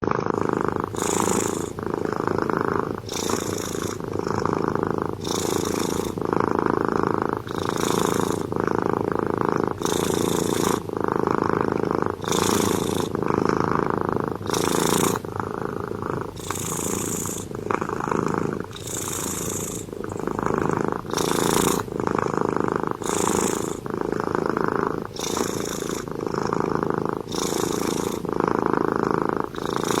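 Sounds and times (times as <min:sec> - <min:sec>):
cat snoring: 0:00.0 - 0:30.0.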